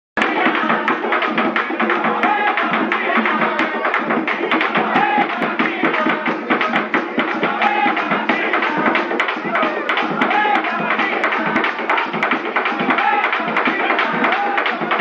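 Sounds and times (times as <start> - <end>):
group of people singing: 0.2 - 15.0
hand clapping: 0.2 - 15.0.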